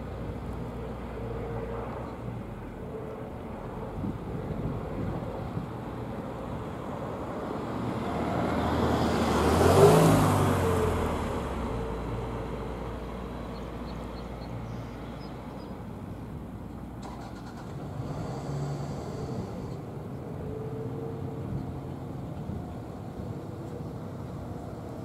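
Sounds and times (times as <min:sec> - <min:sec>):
vehicle passing by: 0:00.0 - 0:16.4, 0:17.0 - 0:25.0.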